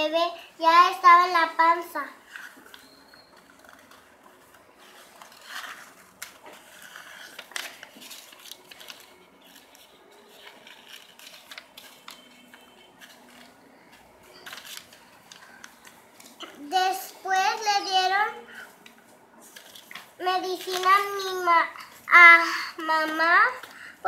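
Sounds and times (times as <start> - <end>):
paper pages rustling: 2.2 - 16.7, 18.6 - 23.9.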